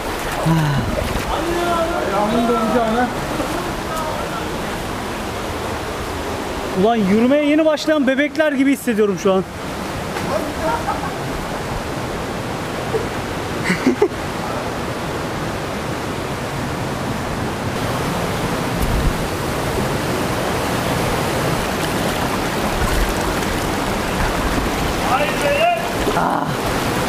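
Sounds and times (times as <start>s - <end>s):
rushing mountain creek: 0.0s - 27.0s.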